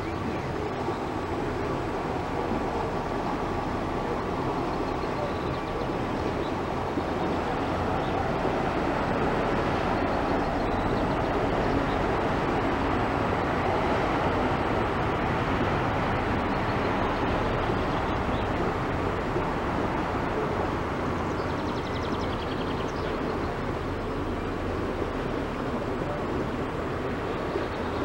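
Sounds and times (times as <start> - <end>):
boat motor rumble: 0.0 - 28.0
water passing: 0.0 - 28.0.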